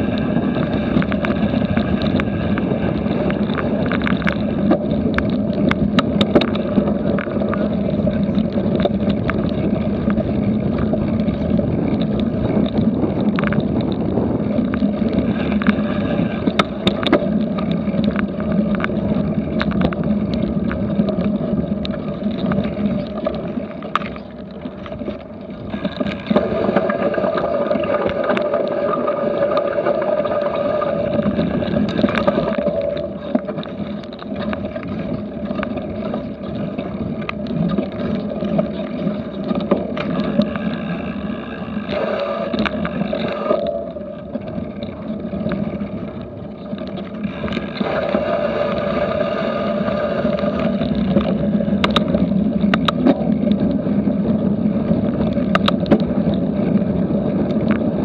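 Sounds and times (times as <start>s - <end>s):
wind rush: 0.0s - 24.0s, 25.0s - 58.0s
bike rattling over bumps: 0.0s - 58.0s
tyre rumble: 0.0s - 58.0s.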